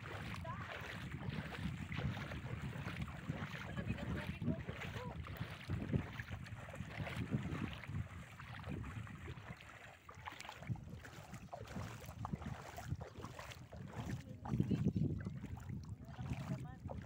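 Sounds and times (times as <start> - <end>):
footsteps splashing in water: 0.0 - 17.0
wind buffeting microphone: 0.0 - 17.0.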